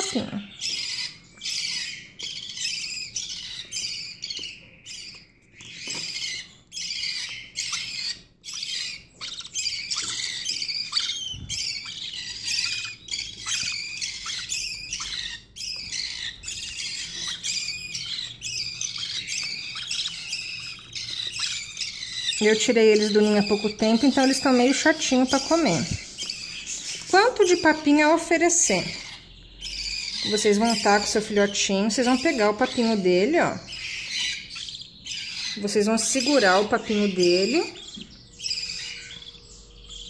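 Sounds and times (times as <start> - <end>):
bird chicks begging calls: 0.0 - 40.0.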